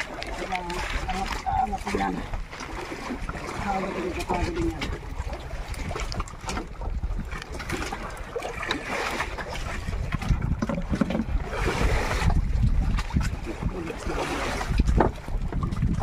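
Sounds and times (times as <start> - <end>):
sea water splashing around boat: 0.0 - 16.0
wind buffeting microphone: 0.0 - 16.0.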